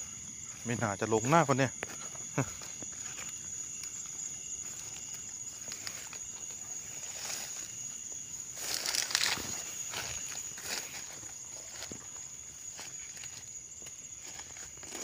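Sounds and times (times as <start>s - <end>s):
crickets droning: 0.0s - 15.0s
footsteps through grass: 0.0s - 15.0s.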